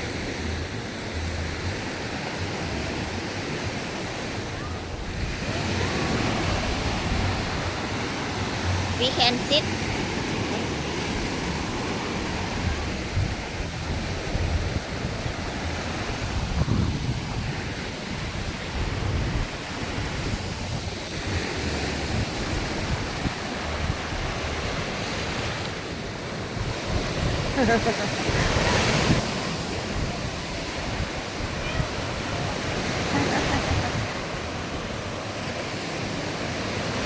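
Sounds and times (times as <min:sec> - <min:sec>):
wind rumbling on microphone: 0:00.0 - 0:09.0, 0:09.6 - 0:37.0
waves washing onto sandy beach: 0:00.0 - 0:37.0.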